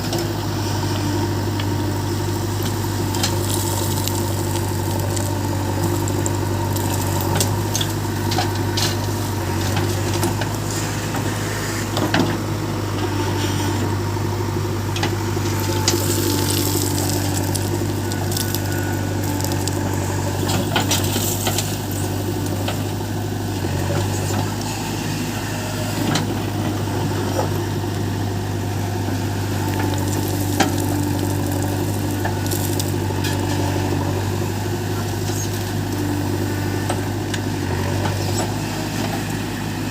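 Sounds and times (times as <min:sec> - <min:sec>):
diesel engine of heavy machinery: 0:00.0 - 0:39.9
knocks and rattles of earth and metal: 0:00.0 - 0:39.9.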